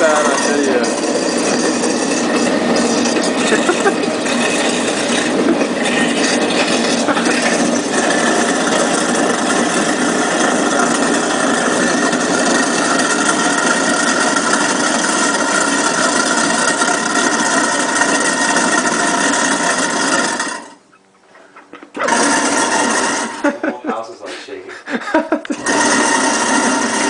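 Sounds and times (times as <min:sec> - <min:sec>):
garbage disposal grinding bones: 0:00.0 - 0:27.0.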